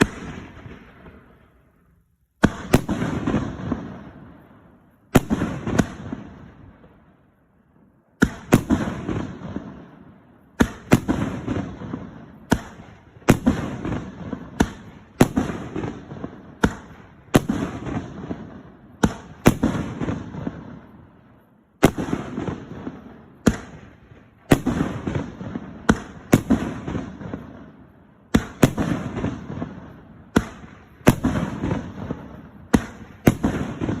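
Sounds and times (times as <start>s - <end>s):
firework bangs: 0.0s - 7.1s, 8.2s - 34.0s.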